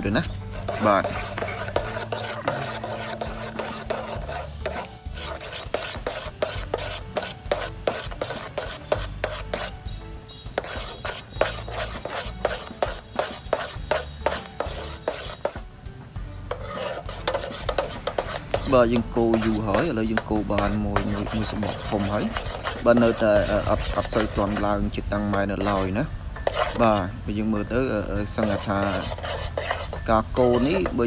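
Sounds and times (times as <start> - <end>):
spoon stirring and scraping pot: 0.3 - 9.8, 10.5 - 15.6, 16.5 - 27.0, 28.2 - 31.0.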